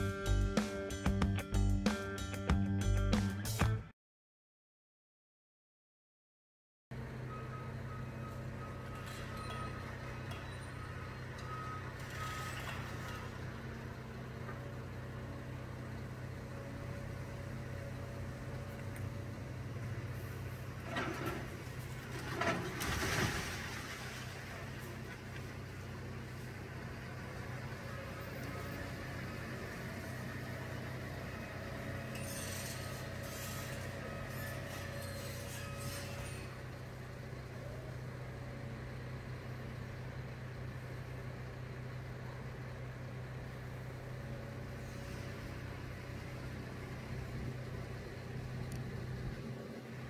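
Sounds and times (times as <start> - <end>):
excavator diesel engine running: 7.0 - 23.0, 23.6 - 50.0.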